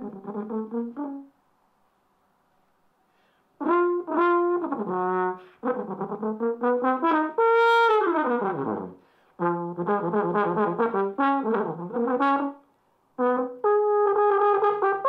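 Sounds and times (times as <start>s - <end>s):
french horn solo: 0.0s - 1.4s, 3.6s - 15.0s.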